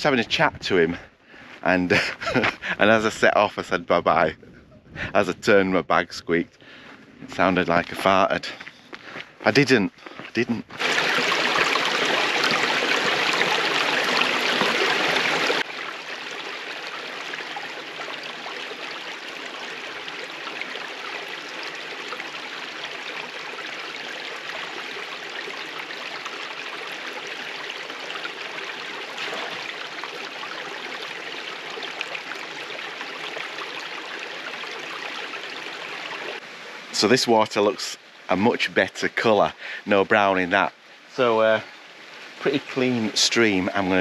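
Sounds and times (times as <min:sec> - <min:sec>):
stream running over rocks: 0:07.2 - 0:44.0.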